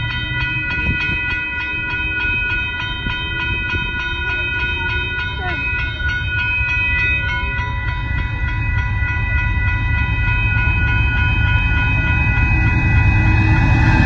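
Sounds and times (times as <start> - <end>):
crossing signal bell ringing: 0.0 - 14.0
freight train rumble: 0.0 - 14.0.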